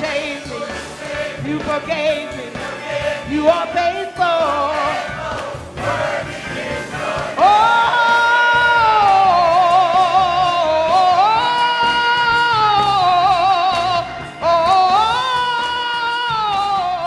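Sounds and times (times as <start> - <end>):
solo gospel singing: 0.0 - 17.0.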